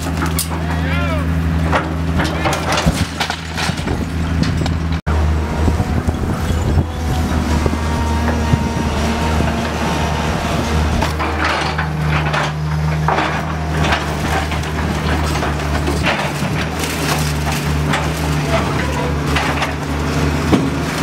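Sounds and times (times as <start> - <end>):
wood cracking and splintering: 0.0 - 0.8, 1.6 - 5.0, 8.2 - 21.0
demolition machine engine: 0.0 - 21.0.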